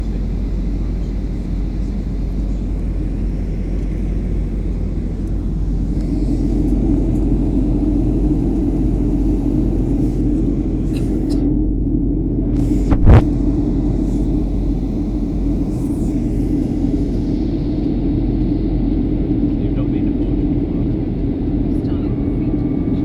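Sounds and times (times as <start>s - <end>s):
airliner rumble: 0.0s - 23.0s.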